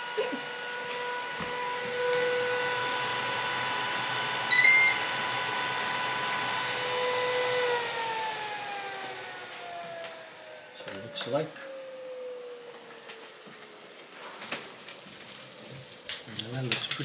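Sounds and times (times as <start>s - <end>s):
air fryer fan whining: 0.0s - 17.0s.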